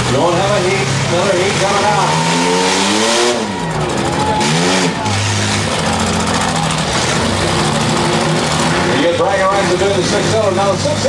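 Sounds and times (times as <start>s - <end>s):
car engine revving: 0.0s - 11.0s
engines running: 0.0s - 11.0s.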